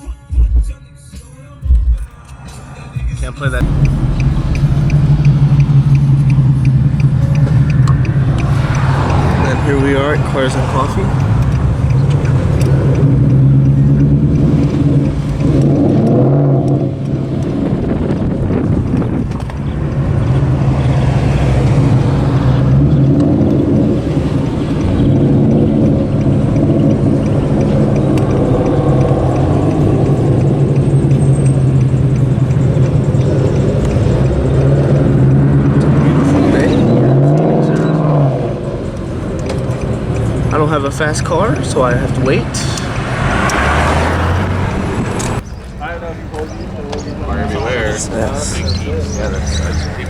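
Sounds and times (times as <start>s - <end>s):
car engine running: 1.6s - 50.0s.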